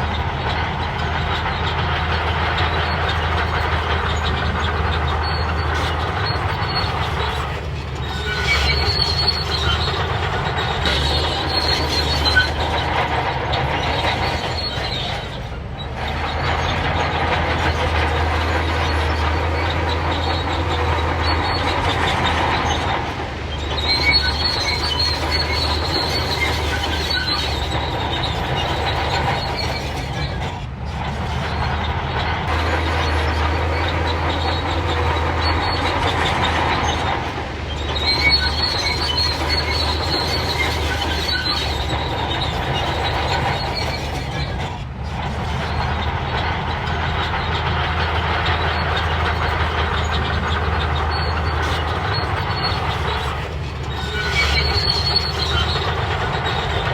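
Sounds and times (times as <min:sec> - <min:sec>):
bulldozer diesel engine running: 0:00.0 - 0:56.9
steel tracks squealing and clanking: 0:00.0 - 0:56.9.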